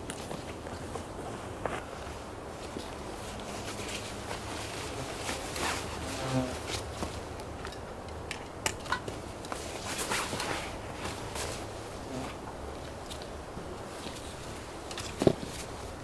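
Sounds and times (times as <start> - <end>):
small clicks and rustles: 0.0 - 16.0.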